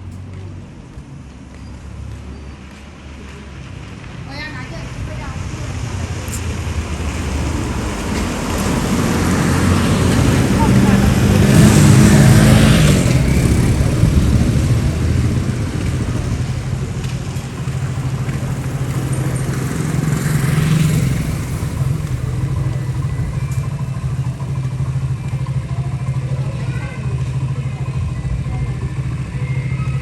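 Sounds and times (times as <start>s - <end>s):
motorcycle engine running: 4.3s - 30.0s.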